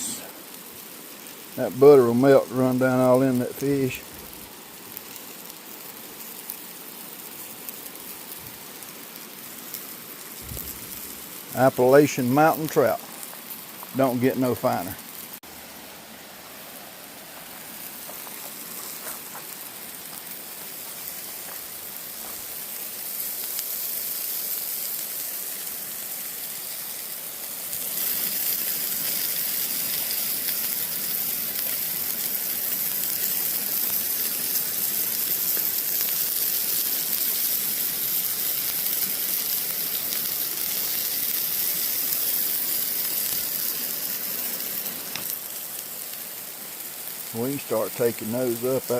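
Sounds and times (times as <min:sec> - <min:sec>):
fish sizzling on a grill: 0:00.0 - 0:48.9.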